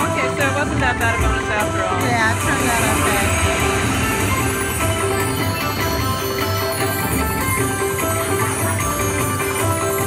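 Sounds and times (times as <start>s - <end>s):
electronic slot machine music: 0.0s - 10.0s.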